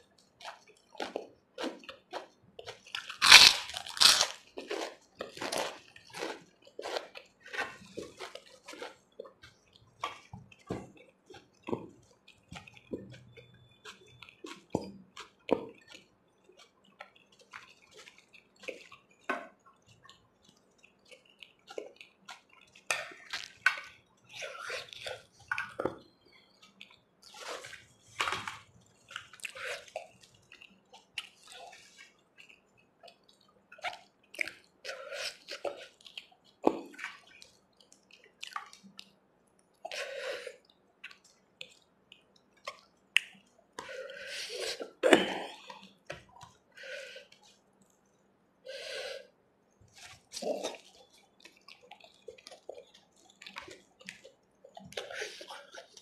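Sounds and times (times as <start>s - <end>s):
wet crunchy chewing: 0.0s - 49.3s, 49.9s - 56.0s
hand mixing rice and curry: 0.0s - 56.0s.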